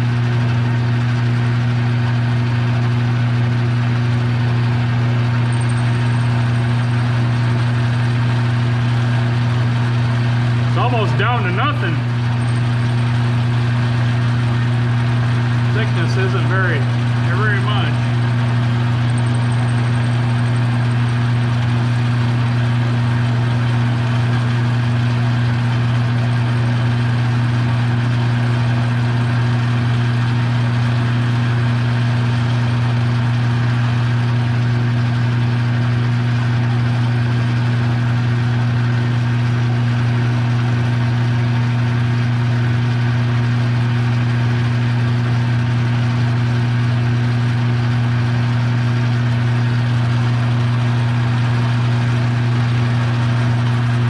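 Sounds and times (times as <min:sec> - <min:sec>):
metal lathe motor hum: 0:00.0 - 0:54.0.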